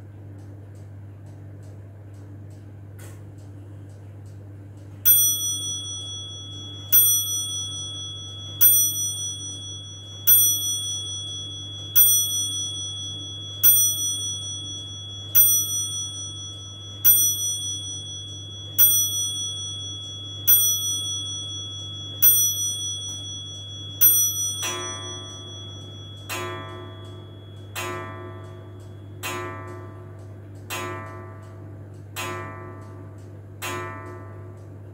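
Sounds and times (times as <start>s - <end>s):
low hum: 3.4s - 33.4s
clock bell striking: 5.1s - 34.7s.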